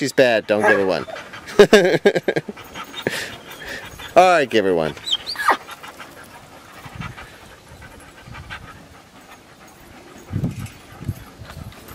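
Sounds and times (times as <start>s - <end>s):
dogs panting: 0.0s - 11.9s.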